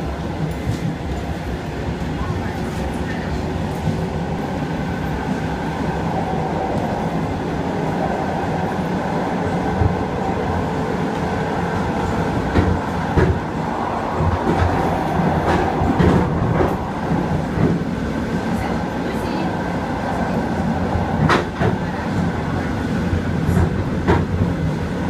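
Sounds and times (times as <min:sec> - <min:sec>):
electric train rumble and hum: 0:00.0 - 0:25.0.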